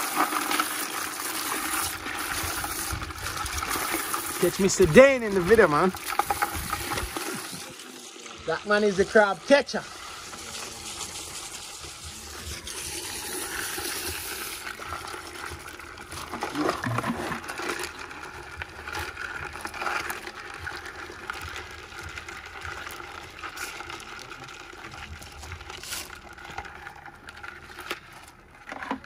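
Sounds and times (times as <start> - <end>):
water pouring and splashing: 0.0 - 29.0.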